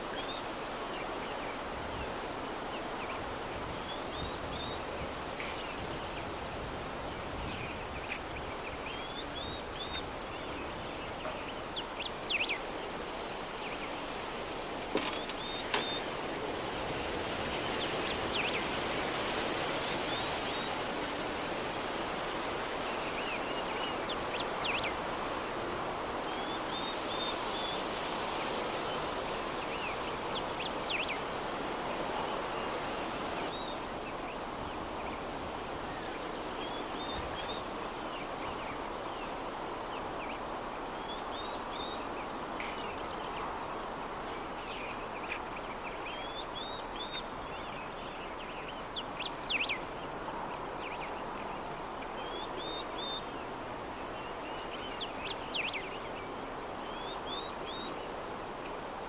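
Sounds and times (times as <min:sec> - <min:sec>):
soft breeze: 0:00.0 - 0:59.0.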